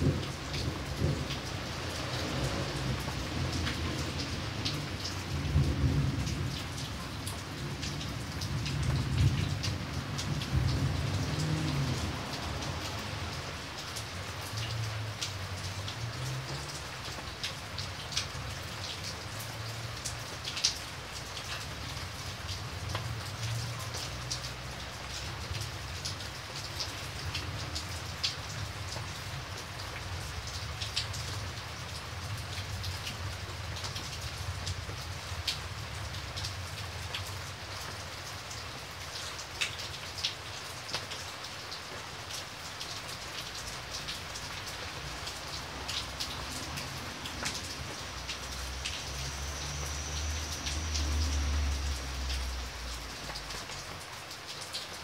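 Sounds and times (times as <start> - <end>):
raindrop splashes: 0.0 - 55.0
steady rain: 0.0 - 55.0.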